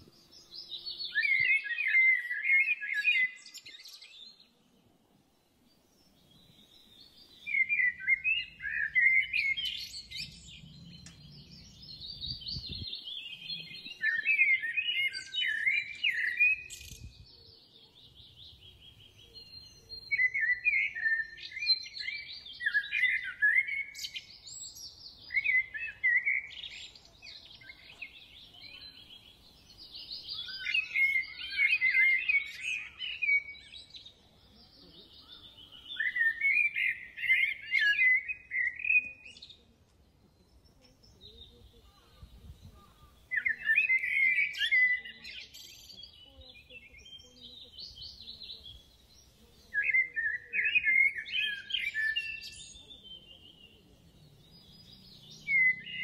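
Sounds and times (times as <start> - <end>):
songbirds twittering: 0.0 - 56.0.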